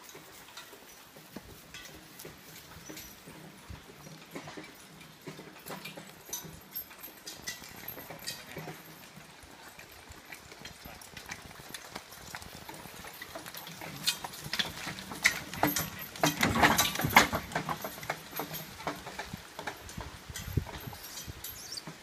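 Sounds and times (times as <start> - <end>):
harness and trailer clattering: 0.0 - 22.0
horse hooves clip-clopping: 0.0 - 22.0.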